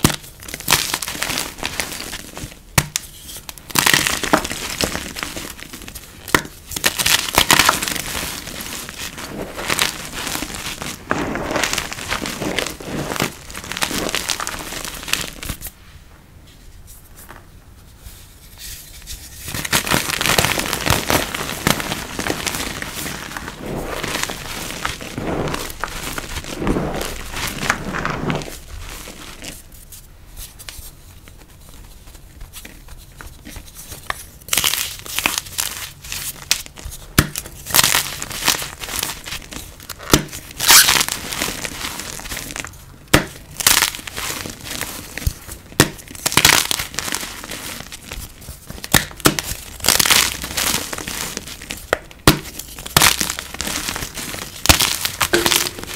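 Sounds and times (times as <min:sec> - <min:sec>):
chalk crunching and crackling: 0:00.0 - 0:15.8, 0:16.5 - 0:55.9
powder sifting: 0:00.0 - 0:15.9, 0:18.0 - 0:29.7, 0:37.6 - 0:42.7, 0:43.3 - 0:55.9.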